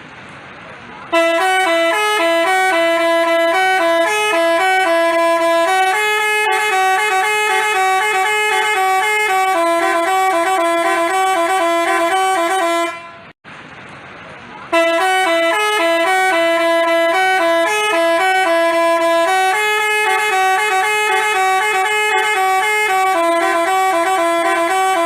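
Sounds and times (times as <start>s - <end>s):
bus horn playing a melody: 1.1s - 13.4s, 14.7s - 25.0s.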